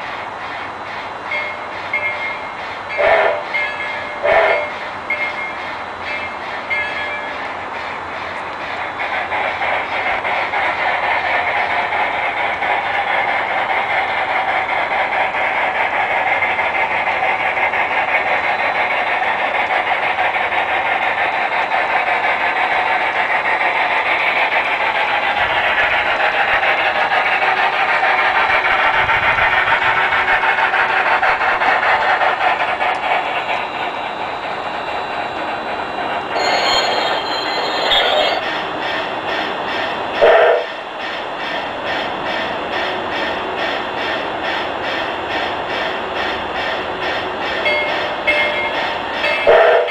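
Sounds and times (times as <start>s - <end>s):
model train clattering on rails: 0.0s - 49.9s.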